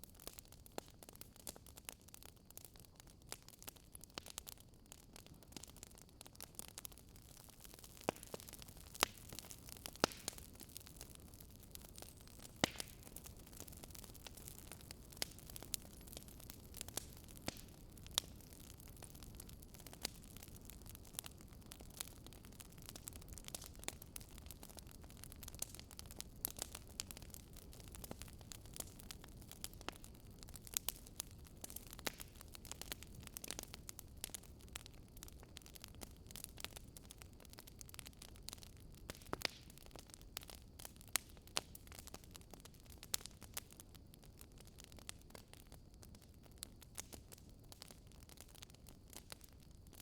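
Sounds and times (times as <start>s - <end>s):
wood fire crackling: 0.0s - 50.0s
faint low hiss: 4.4s - 50.0s.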